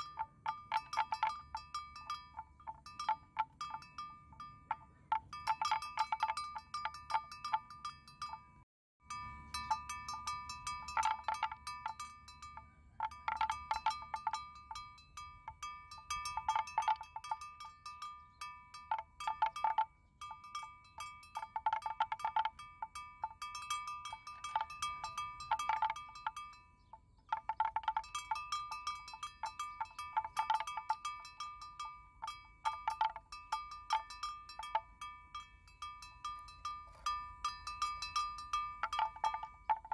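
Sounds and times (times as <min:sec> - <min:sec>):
metal neck bells clanking: 0:00.0 - 0:39.9.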